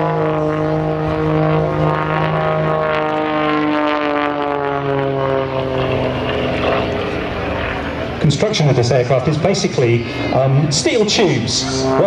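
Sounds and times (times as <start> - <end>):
propeller plane droning in flight: 0.0 - 12.0.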